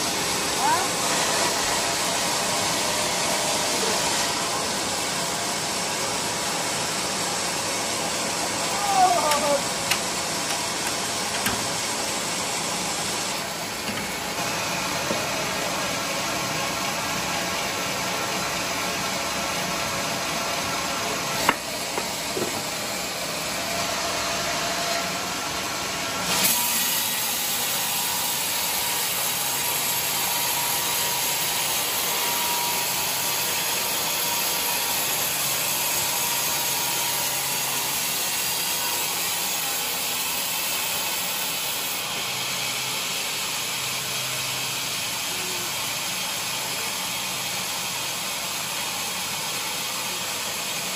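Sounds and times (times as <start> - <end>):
band saw cutting log: 0.0 - 16.6, 21.0 - 50.9.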